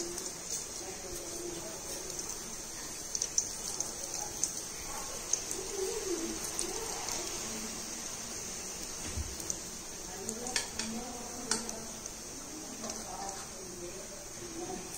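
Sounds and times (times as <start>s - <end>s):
seeds sizzling in hot oil: 0.0s - 14.9s.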